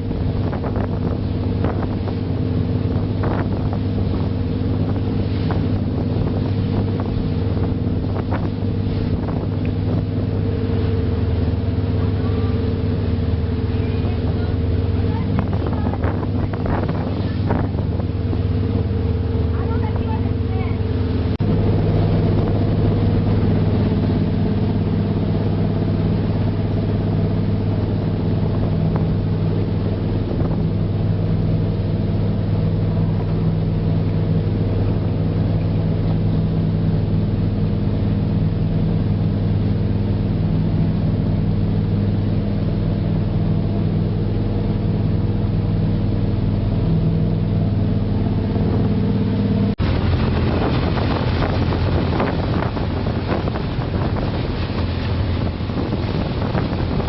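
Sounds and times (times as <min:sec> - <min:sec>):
boat engine humming: 0:00.0 - 0:57.0
wind noise on microphone: 0:00.0 - 0:57.0.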